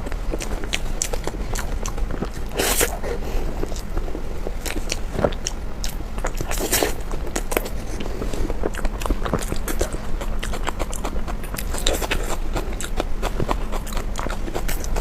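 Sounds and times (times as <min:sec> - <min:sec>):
mouth chewing with wet clicks: 0:00.0 - 0:15.0.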